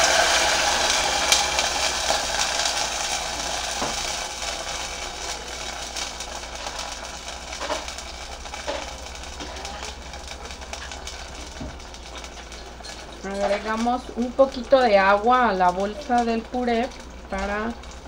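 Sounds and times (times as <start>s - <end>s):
sizzling in hot oil: 0.0s - 18.0s.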